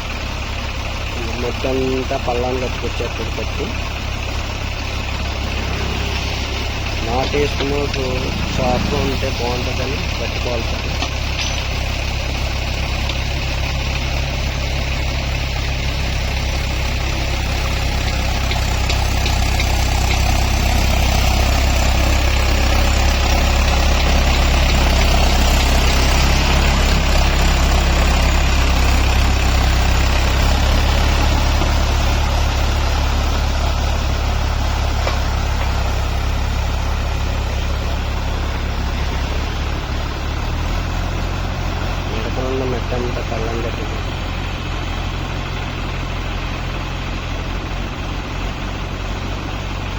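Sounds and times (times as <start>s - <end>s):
diesel tractor engine running: 0.0s - 49.9s.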